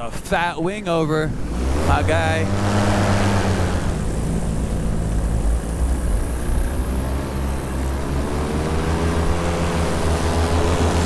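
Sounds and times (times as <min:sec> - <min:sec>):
paramotor engine and propeller: 0:00.0 - 0:11.0.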